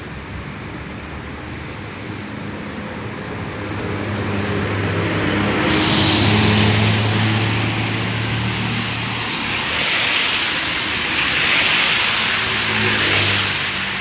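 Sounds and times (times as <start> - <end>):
large vehicle engine humming: 0.0 - 14.0
tyres hissing on wet road: 0.0 - 14.0.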